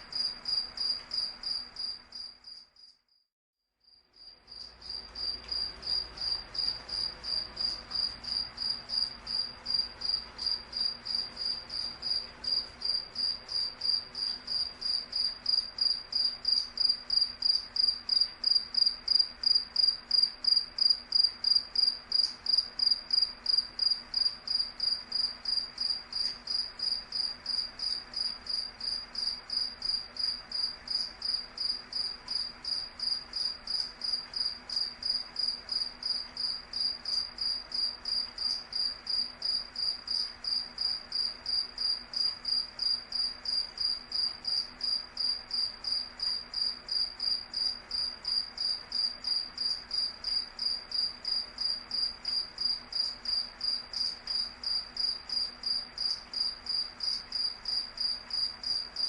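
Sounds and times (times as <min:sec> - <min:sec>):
cricket chirping: 0:00.0 - 0:03.2, 0:03.8 - 0:59.0.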